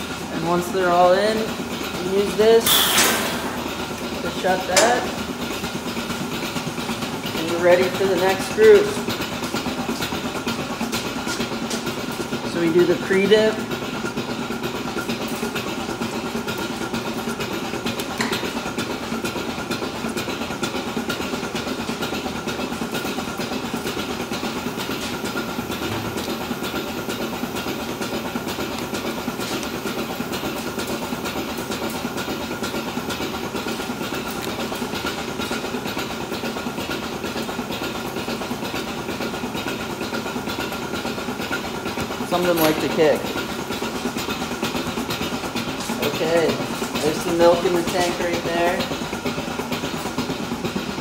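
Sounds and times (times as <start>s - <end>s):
milking machinery hum: 0.0s - 51.0s.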